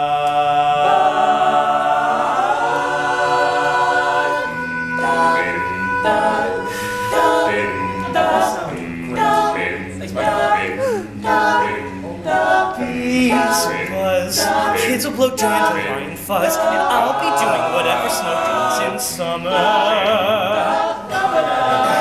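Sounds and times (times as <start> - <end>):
male a cappella group singing: 0.0 - 22.0.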